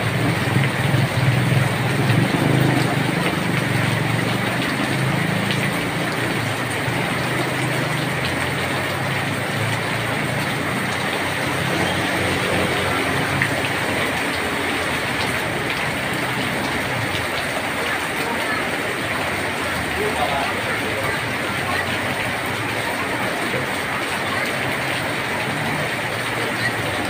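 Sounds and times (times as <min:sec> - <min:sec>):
heavy rain on asphalt: 0:00.0 - 0:27.0
motorbikes passing on wet road: 0:00.0 - 0:27.0.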